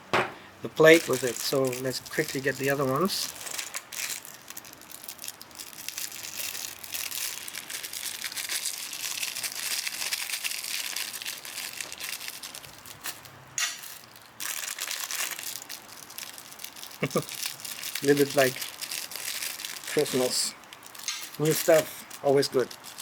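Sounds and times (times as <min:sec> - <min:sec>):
packing paper crinkling: 0:00.7 - 0:23.0.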